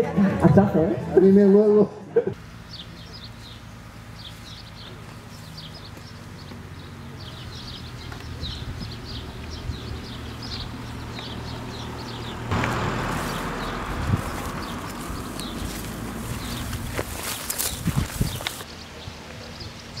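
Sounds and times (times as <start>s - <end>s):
small birds chirping: 2.3s - 20.0s.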